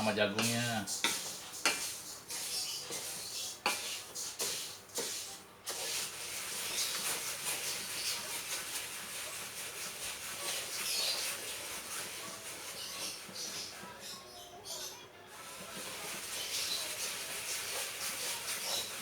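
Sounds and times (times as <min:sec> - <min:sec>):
crackling hiss of roasting: 0:00.0 - 0:14.2, 0:15.3 - 0:19.0
scraping stirs in a pan: 0:00.0 - 0:19.0.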